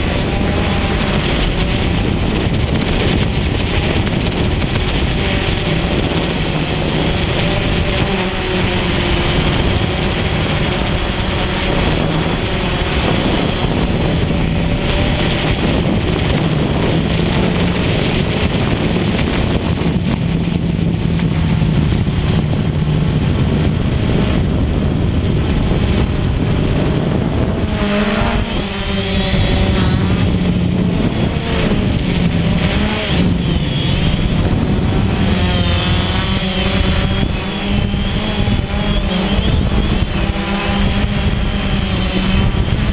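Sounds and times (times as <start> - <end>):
drone propellers buzzing: 0.0 - 42.9
wind rush: 0.0 - 42.9.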